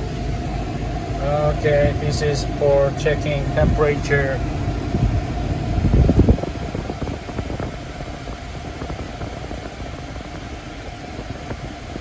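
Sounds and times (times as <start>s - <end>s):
fans blowing: 0.0s - 12.0s
truck engine idling: 0.0s - 12.0s.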